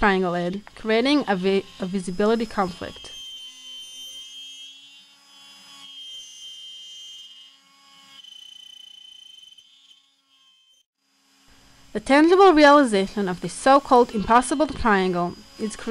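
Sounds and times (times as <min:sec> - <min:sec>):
cutter milling wood: 0:00.0 - 0:10.7, 0:11.5 - 0:15.9
router spindle whining: 0:00.0 - 0:15.9.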